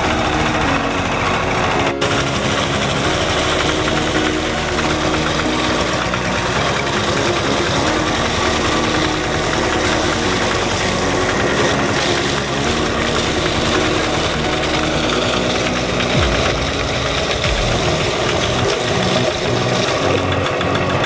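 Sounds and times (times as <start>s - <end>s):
diesel pump engine running: 0.0s - 21.0s.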